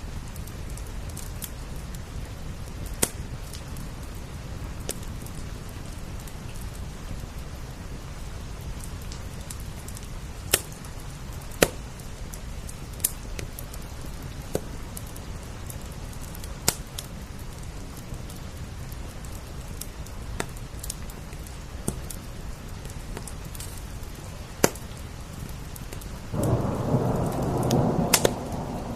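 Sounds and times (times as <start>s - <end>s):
rain hissing: 0.0s - 28.9s
wood fire crackling: 0.0s - 28.9s
sharp pops from fire: 0.2s - 4.2s, 8.6s - 28.9s.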